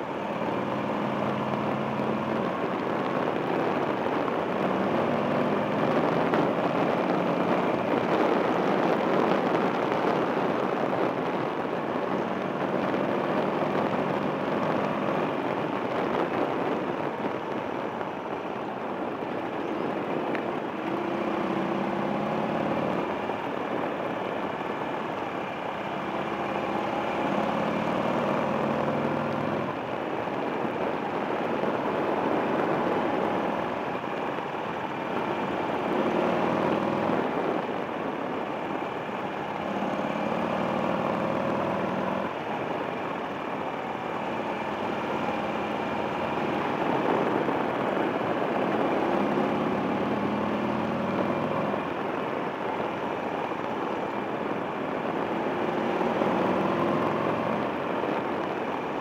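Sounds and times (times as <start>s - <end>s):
motorcycle engine revving: 0.0s - 52.2s, 52.9s - 58.2s
wind and road noise: 0.0s - 59.0s.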